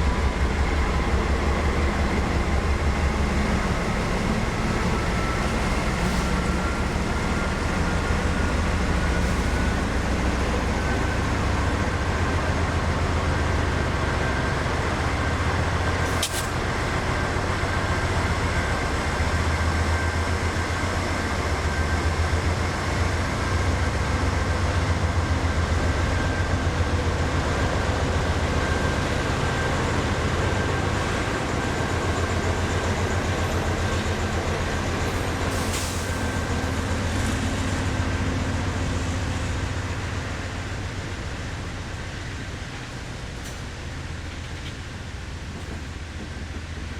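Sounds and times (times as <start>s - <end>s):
diesel locomotives rumbling: 0.0s - 46.9s.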